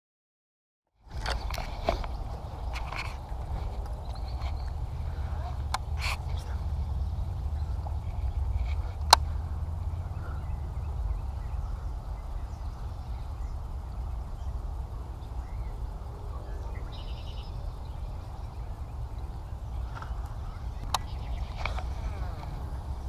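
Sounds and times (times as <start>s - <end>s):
low steady rumble: 1.0s - 23.0s
faint bird chirps: 4.0s - 23.0s.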